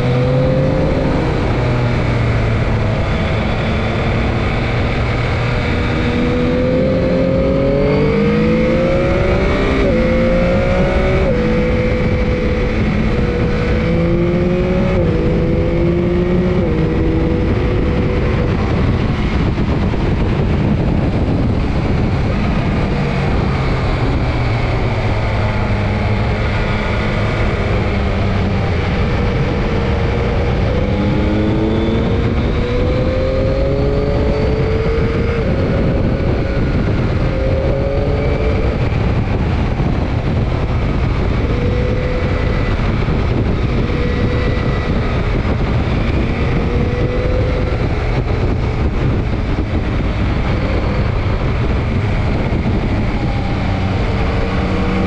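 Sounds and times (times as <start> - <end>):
motorcycle engine accelerating: 0.0 - 55.0
wind rush over microphone: 0.0 - 55.0.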